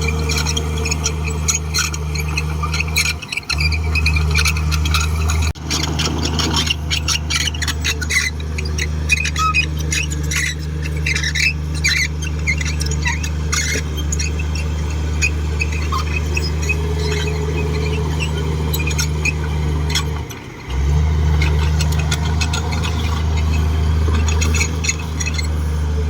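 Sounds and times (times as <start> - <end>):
bulldozer diesel engine running: 0.0 - 26.0
high-pitched squeals and scrapes: 0.0 - 26.0.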